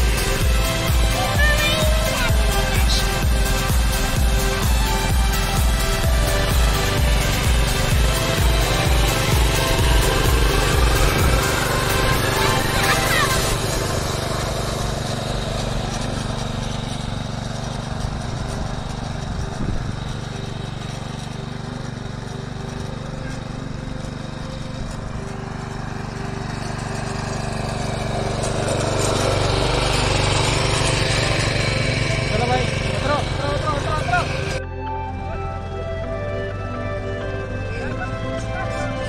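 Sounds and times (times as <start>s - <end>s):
power tiller engine running: 0.0s - 39.0s.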